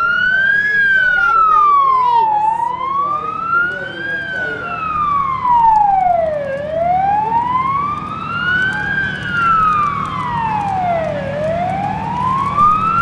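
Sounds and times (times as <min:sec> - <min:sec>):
fire engine siren wailing: 0:00.0 - 0:13.0.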